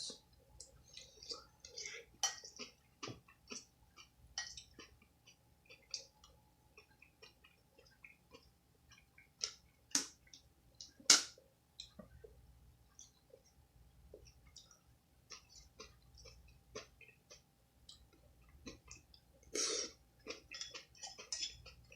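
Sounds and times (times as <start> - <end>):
chewing with mouth clicks: 0.6 - 12.3, 14.1 - 19.2, 20.2 - 21.9.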